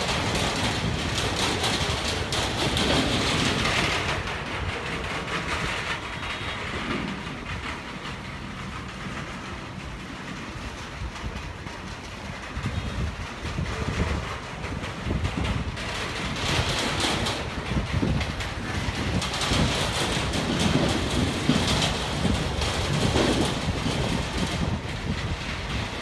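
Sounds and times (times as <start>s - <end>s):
grass rustling in wind: 0.0s - 26.0s
wind buffeting microphone: 0.0s - 26.0s.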